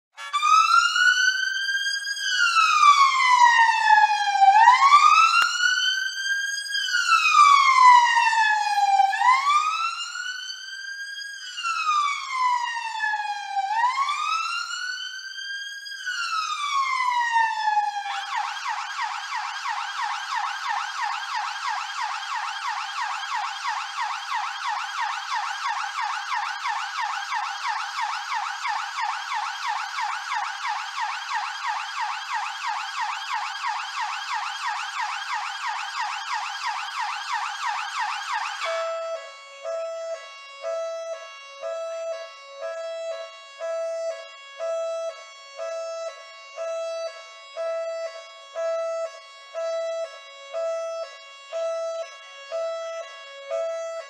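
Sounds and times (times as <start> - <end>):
police siren fast yelp: 0.2 - 54.0
police siren wailing: 0.2 - 54.0.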